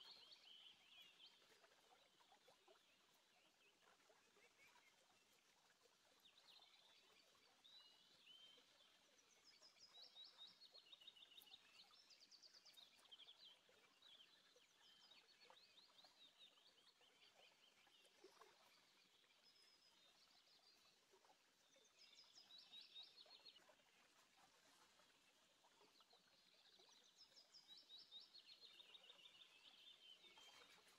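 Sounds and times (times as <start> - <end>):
faint bird chirping: 0.0 - 30.9.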